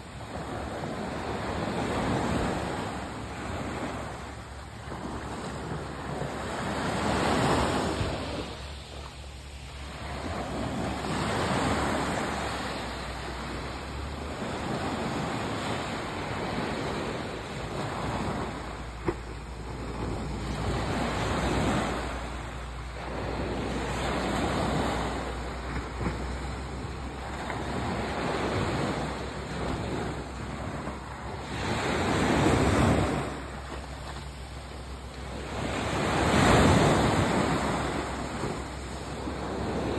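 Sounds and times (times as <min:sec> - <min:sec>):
waves washing on pebble beach: 0:00.0 - 0:39.9.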